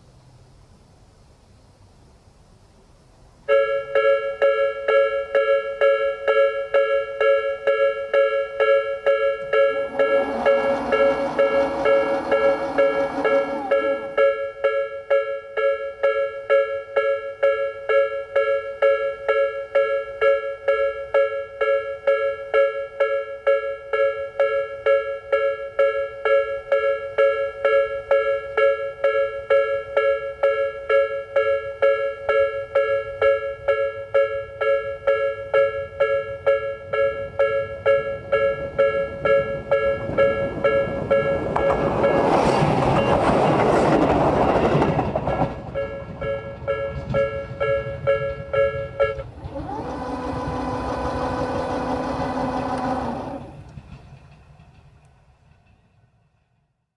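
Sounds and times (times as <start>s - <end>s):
train passing: 0.0s - 56.8s
level crossing warning bell: 3.5s - 54.3s.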